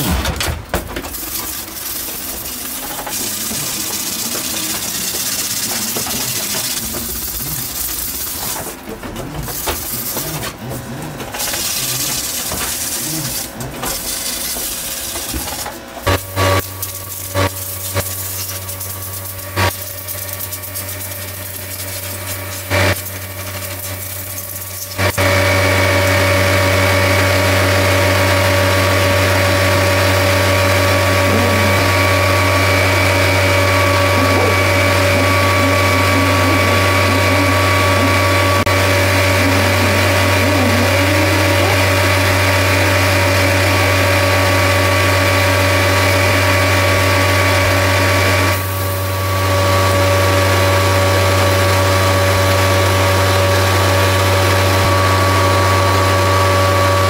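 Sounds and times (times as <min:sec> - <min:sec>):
power tool motor running: 0:01.0 - 0:57.0.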